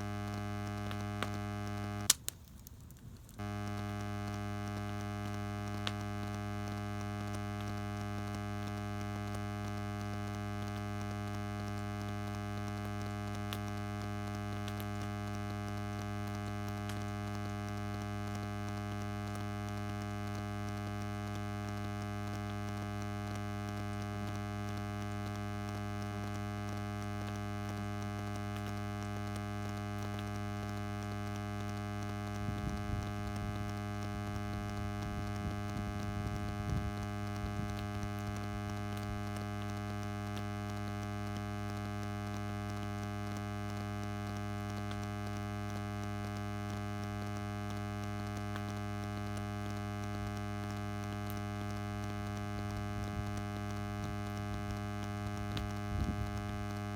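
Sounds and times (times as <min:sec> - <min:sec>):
steady hum with overtones: 0:00.0 - 0:56.9.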